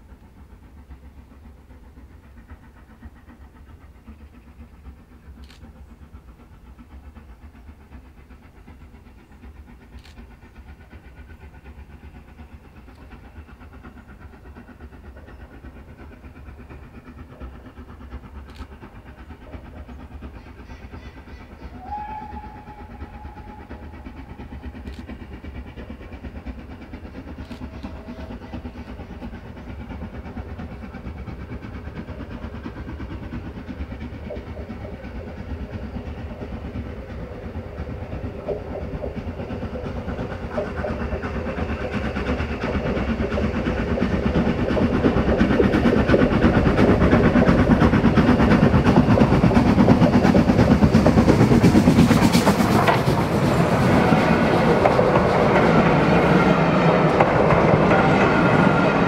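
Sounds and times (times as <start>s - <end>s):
steam train wheels clattering: 0.0s - 59.0s.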